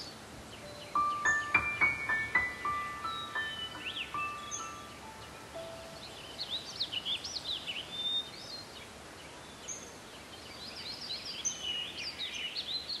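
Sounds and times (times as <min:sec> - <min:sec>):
small birds chirping and twittering: 0:00.0 - 0:13.0
steady outdoor hiss: 0:00.0 - 0:13.0.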